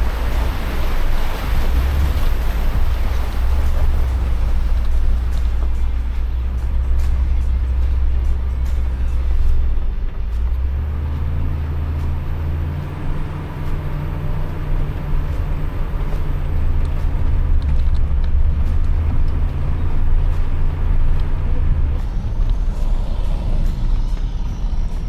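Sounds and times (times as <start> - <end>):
low engine drone: 0.0 - 25.0
tyre and road noise: 0.0 - 25.0.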